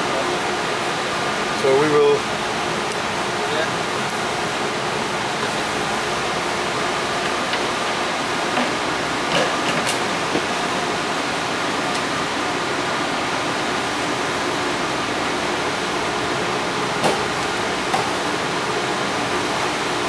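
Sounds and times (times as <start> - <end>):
air conditioning and cooling fans: 0.0 - 20.0.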